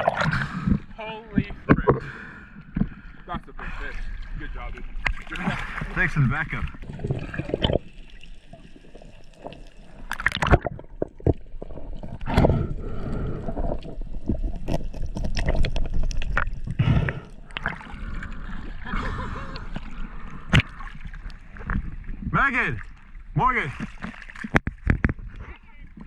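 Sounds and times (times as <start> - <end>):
water gurgling and splashing: 0.0 - 26.0.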